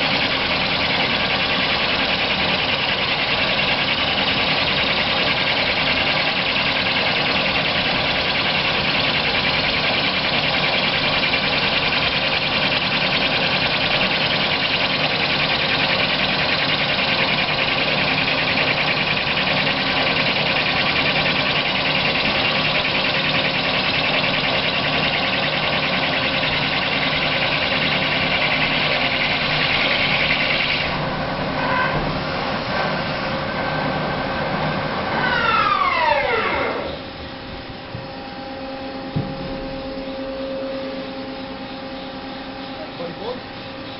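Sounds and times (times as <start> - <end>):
lathe machine hum: 0.0 - 43.9
spindle slowing with falling whine: 0.0 - 43.9.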